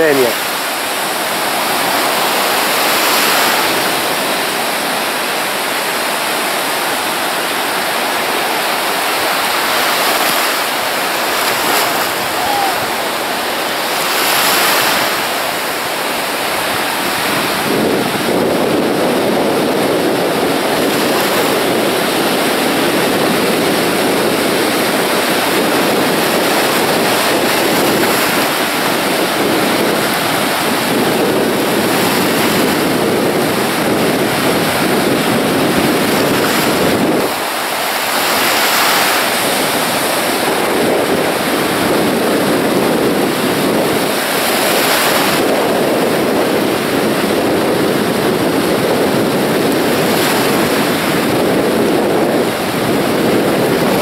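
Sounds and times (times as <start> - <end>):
surf breaking on a beach: 0.0 - 54.0.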